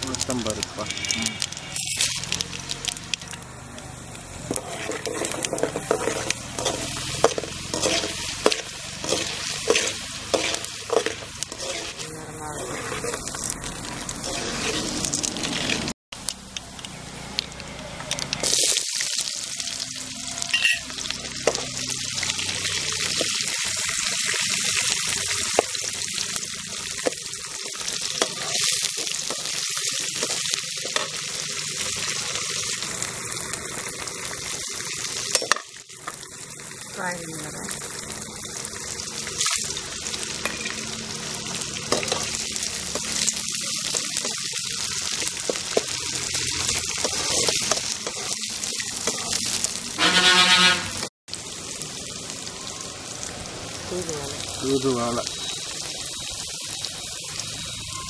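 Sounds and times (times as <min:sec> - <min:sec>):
seeds sizzling in hot oil: 0:00.0 - 0:58.0.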